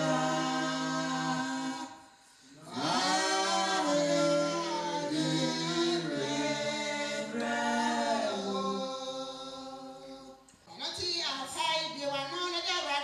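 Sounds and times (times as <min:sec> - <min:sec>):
voices singing unaccompanied: 0:00.0 - 0:10.4.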